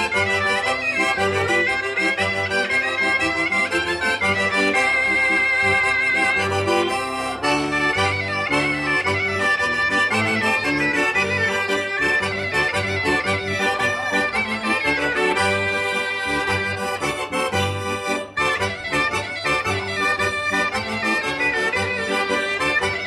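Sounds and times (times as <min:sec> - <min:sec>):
accordion chords and bass: 0:00.0 - 0:23.0
reedy wind instrument melody: 0:00.0 - 0:23.0.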